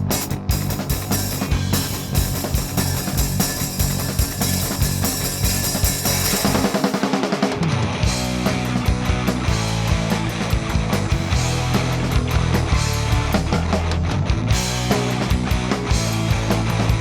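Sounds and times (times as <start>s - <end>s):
instrumental rock band: 0.0s - 17.0s.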